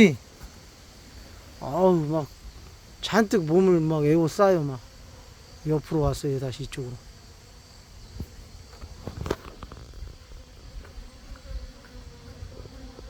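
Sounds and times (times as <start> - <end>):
bee humming close by: 0.0 - 13.0
bees buzzing: 0.0 - 13.0.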